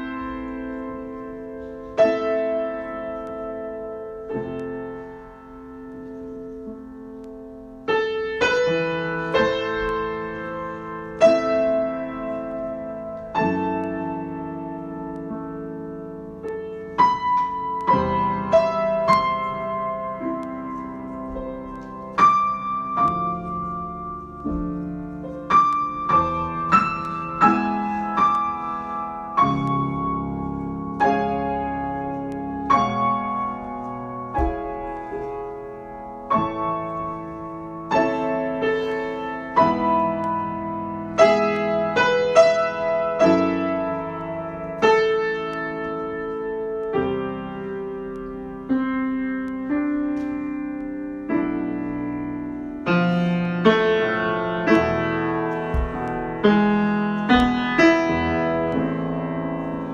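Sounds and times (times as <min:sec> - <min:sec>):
solo piano chords and melody: 0:00.0 - 0:59.9.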